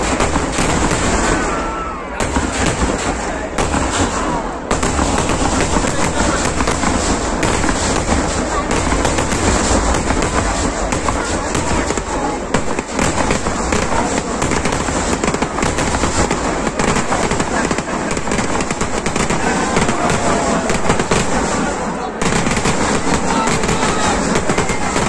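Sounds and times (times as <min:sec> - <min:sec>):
firecracker bangs: 0:00.0 - 0:25.0.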